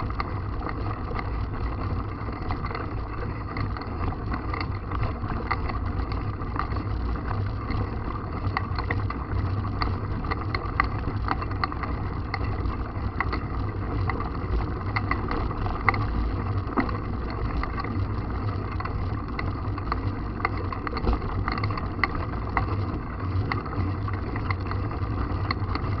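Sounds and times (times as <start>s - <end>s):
bike clicks and rattles: 0.0s - 26.0s.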